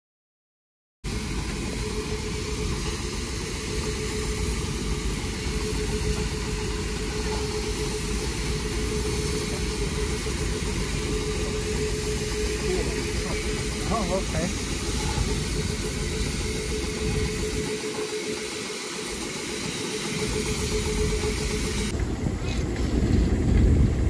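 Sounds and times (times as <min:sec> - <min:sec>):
locomotive rumble and hiss: 0:01.1 - 0:24.0.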